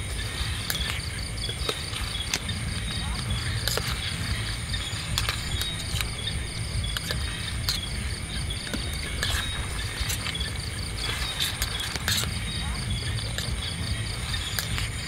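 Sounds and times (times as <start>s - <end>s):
campfire crackling: 0.0s - 15.0s
crickets and insects chirping: 0.0s - 15.0s.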